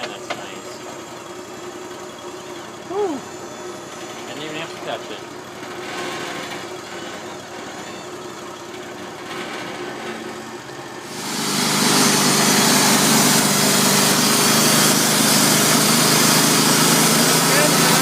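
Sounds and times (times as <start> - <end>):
band sawmill running: 0.0 - 18.0.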